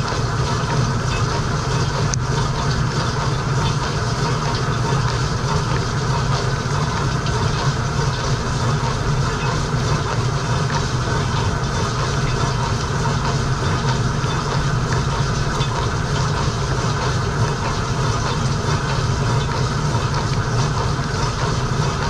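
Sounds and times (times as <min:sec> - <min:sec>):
dishwasher pump humming: 0:00.0 - 0:22.0
water jets spraying dishes: 0:00.0 - 0:22.0.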